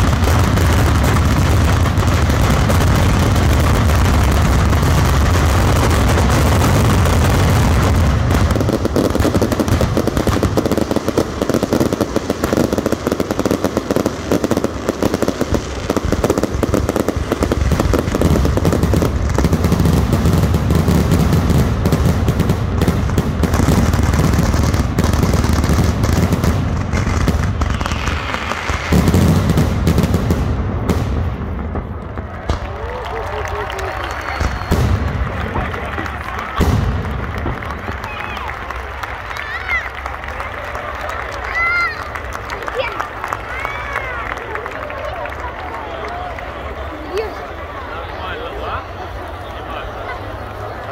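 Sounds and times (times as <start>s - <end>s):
firecrackers barrage of rapid bangs: 0.0s - 46.2s.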